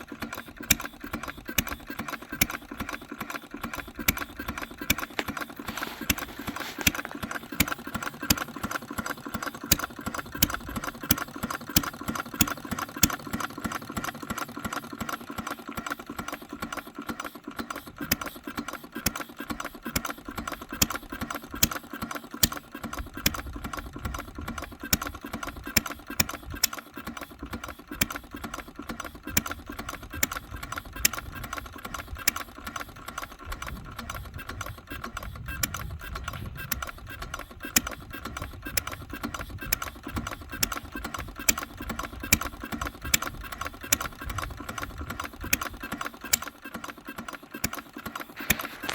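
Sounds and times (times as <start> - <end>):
rapid ticking and clicking: 0.0 - 48.9
single-cylinder engine running: 0.0 - 48.9.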